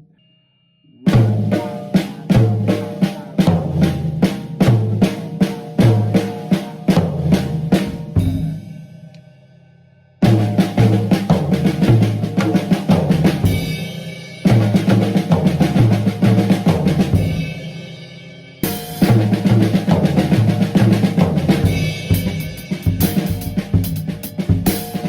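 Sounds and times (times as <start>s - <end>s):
drum kit playing a groove: 1.1s - 9.0s, 10.2s - 25.0s.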